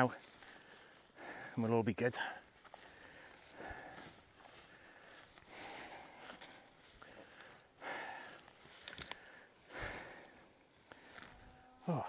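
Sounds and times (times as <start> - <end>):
person breathing heavily: 0.1 - 1.6, 2.2 - 12.0.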